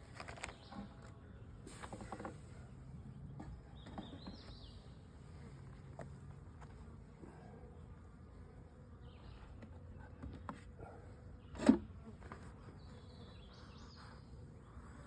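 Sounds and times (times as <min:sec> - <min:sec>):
honeybees buzzing: 0:00.4 - 0:15.0.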